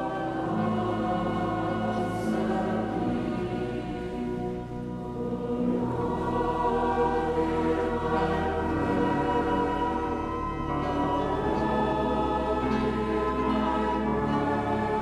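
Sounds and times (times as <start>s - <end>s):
choir singing a worship song: 0.0s - 15.0s
musical accompaniment: 0.0s - 15.0s.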